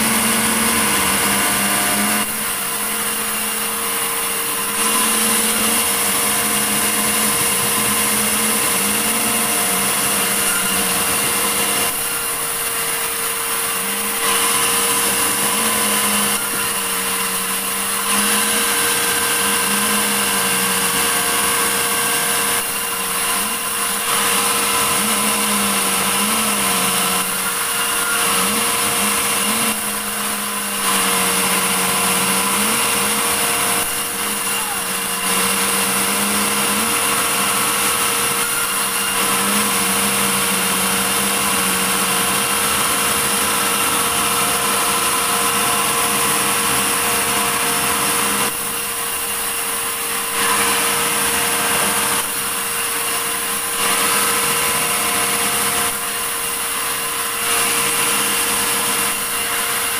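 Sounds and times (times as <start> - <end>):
running machine tone: 0.0 - 59.9
saw cutting log: 0.0 - 59.9.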